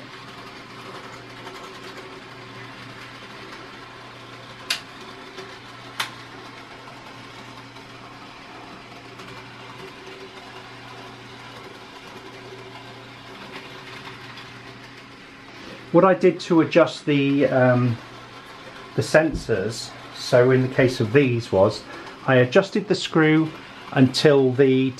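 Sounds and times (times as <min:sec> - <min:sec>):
light wheel noise: 0:00.0 - 0:24.9
model train motor hum: 0:00.0 - 0:24.9.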